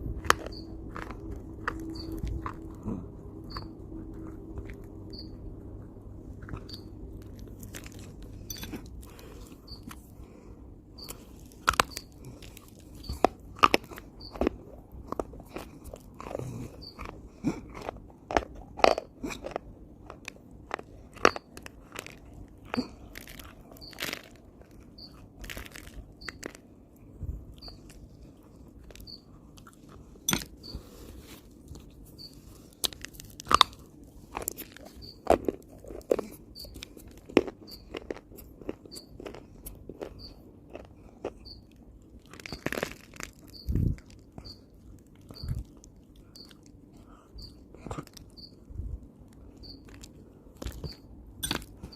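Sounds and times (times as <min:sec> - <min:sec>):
person crunching and chewing: 0:00.0 - 0:51.9.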